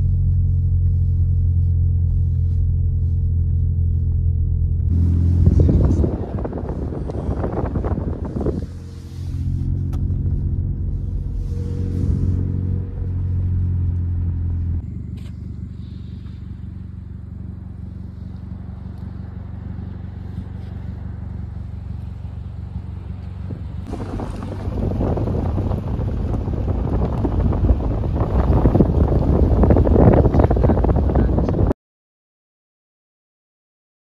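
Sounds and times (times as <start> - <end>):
car engine drone: 0.0 - 31.7
road noise: 0.0 - 31.8.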